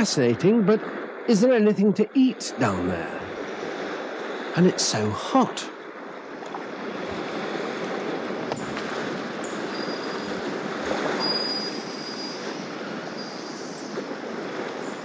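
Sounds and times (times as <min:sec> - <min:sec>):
sea waves breaking on shore: 0:02.4 - 0:15.0.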